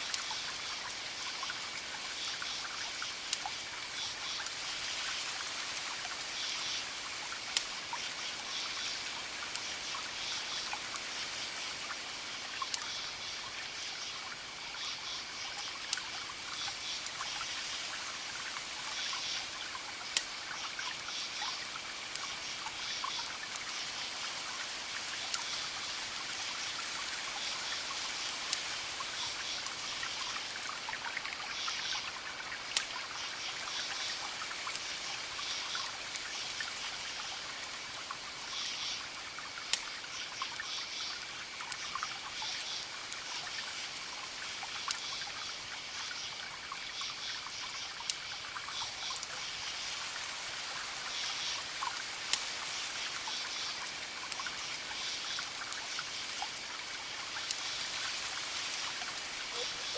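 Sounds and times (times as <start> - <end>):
campfire crackling and popping: 0.1 - 59.9
crickets chirping: 9.7 - 59.9.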